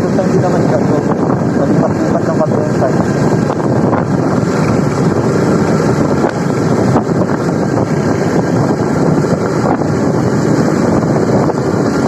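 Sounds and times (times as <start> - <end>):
motorcycle engine running: 0.0 - 12.0
wind rushing on microphone: 0.0 - 12.0.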